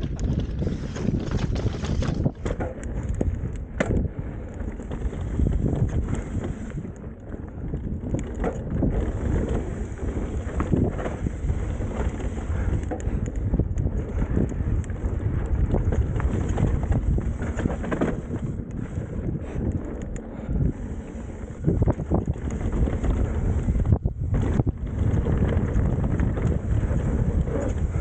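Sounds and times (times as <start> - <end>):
bike knocks and rattles: 0.0 - 28.0
bike tyre noise: 0.0 - 28.0
wind buffeting microphone: 0.0 - 28.0.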